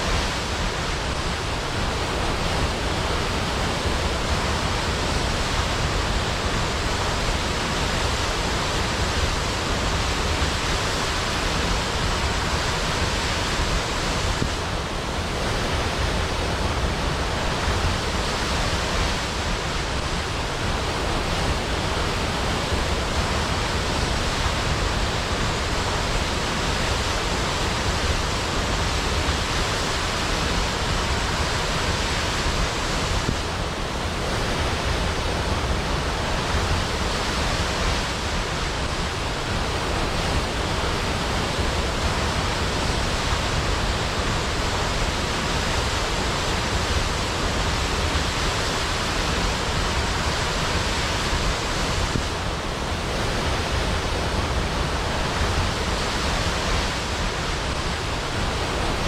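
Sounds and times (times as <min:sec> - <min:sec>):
waterfall rushing onto water: 0:00.0 - 0:59.0.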